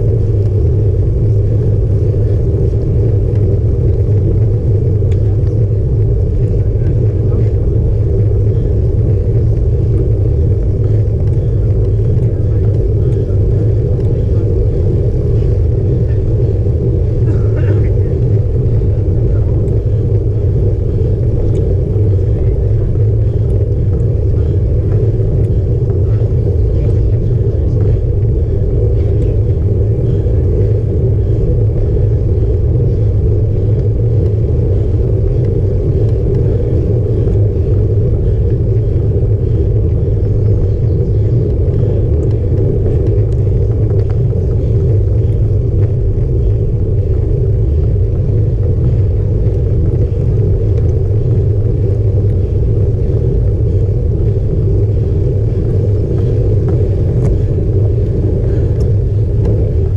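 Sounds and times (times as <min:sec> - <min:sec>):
road vibration rumble: 0:00.0 - 0:59.9
wind buffeting: 0:00.0 - 0:59.9.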